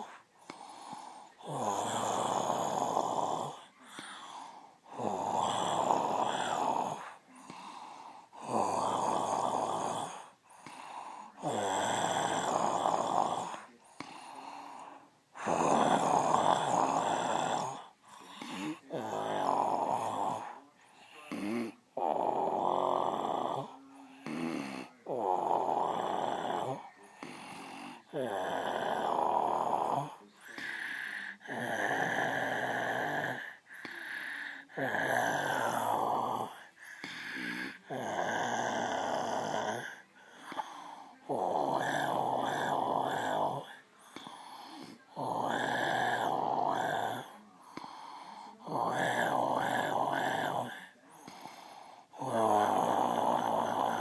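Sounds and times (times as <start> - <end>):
quiet breathing: 0.0 - 54.0
woman snoring: 0.0 - 54.0.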